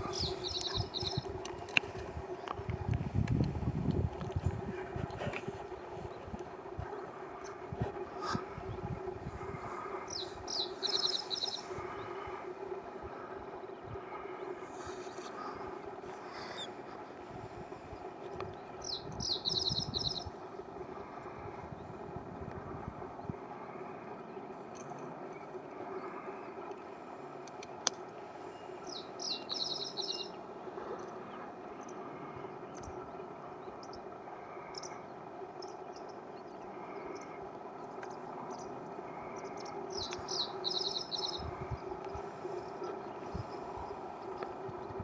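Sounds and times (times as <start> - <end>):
reed bunting singing: 0.0 - 2.7, 4.5 - 22.4, 25.2 - 45.0
steady background noise: 0.0 - 45.0.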